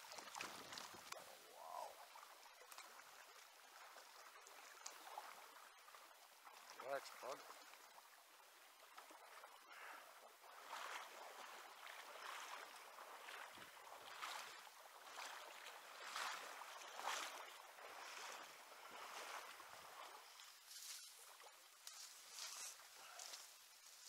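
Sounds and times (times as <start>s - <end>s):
water sloshing from wading: 0.0s - 24.0s.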